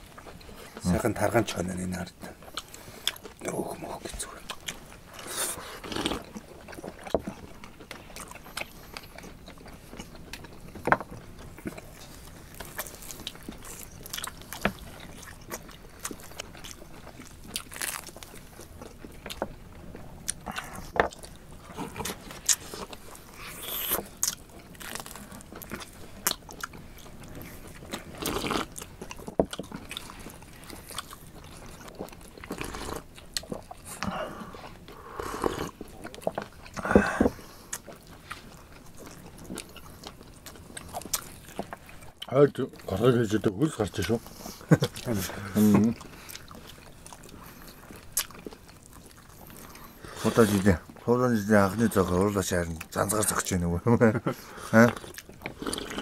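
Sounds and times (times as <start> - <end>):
people chewing meat: 0.0 - 56.0.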